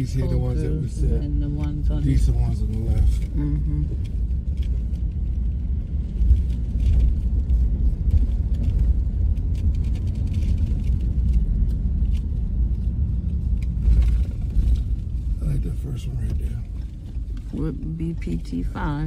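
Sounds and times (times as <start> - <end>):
vehicle rumble from inside: 0.0 - 19.0.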